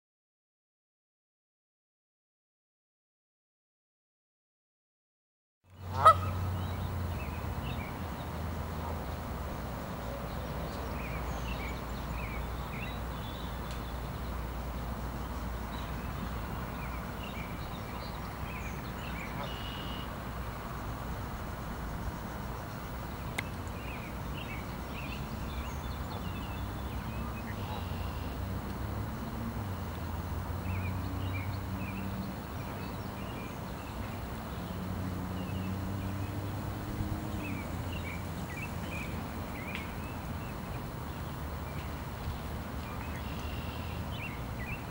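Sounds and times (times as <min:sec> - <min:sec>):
small birds chirping: 0:05.7 - 0:44.9
distant city traffic rumble: 0:05.8 - 0:44.9.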